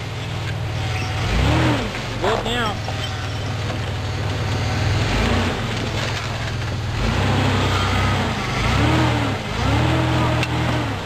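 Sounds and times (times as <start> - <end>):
suv engine running at low revs: 0.0 - 11.0.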